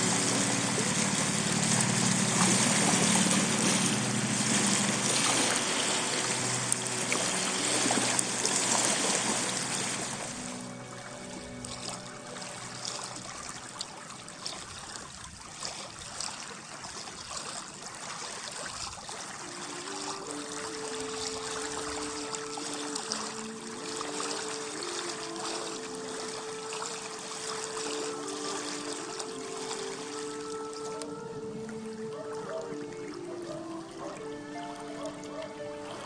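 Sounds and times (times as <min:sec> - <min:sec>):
soft melody of held notes: 0:00.0 - 0:15.0, 0:19.4 - 0:36.0
small water splashes: 0:00.0 - 0:36.0
water lapping among stones: 0:00.0 - 0:36.0.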